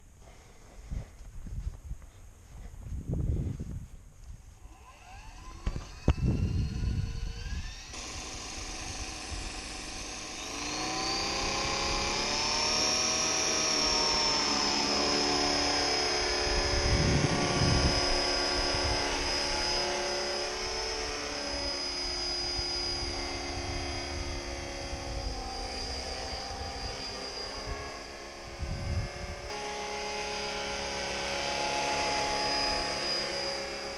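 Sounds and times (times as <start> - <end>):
rc helicopter motor whine: 4.4 - 33.9
rotor noise: 4.6 - 33.9.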